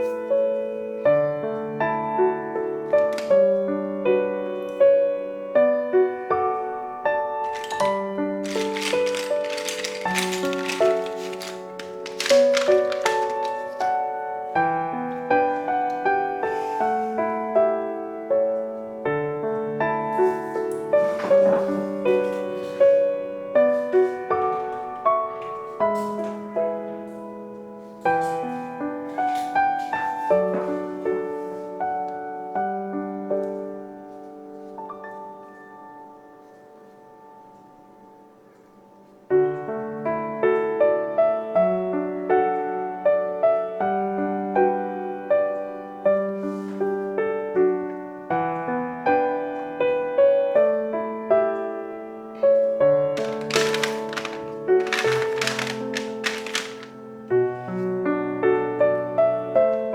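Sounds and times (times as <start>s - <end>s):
gentle piano melody: 0.0s - 59.9s.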